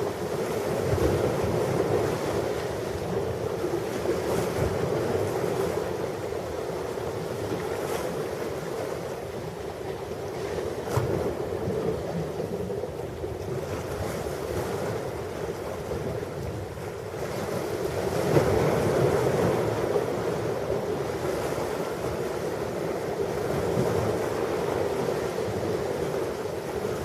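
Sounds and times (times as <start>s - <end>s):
ocean surf washing onto beach: 0.0s - 27.0s.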